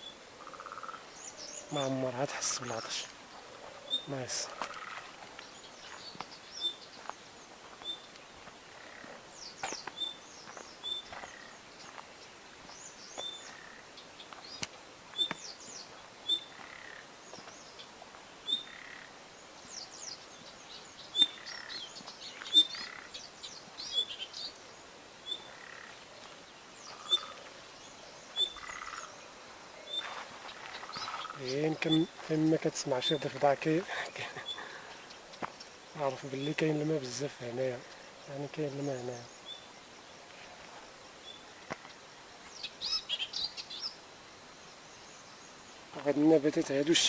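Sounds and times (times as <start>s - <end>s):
frogs calling: 0.0s - 20.2s, 20.8s - 47.0s
small birds chirping: 0.0s - 47.0s.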